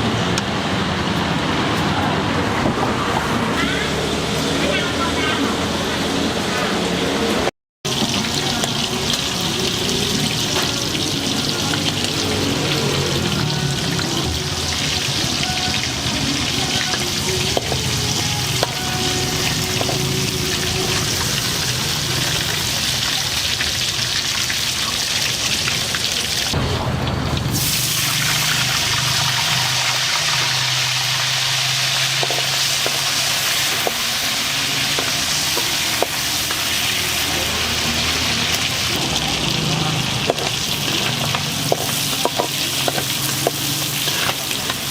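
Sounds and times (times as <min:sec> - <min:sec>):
food sizzling in a wok: 0:03.6 - 0:44.9.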